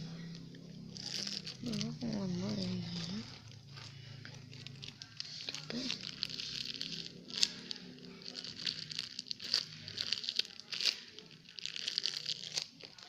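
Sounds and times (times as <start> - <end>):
plastic packaging crinkling: 0.8 - 13.0.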